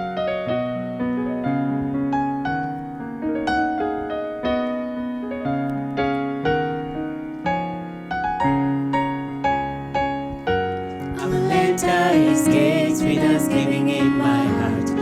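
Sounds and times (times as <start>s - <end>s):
slow keyboard chords and melody: 0.0s - 15.0s.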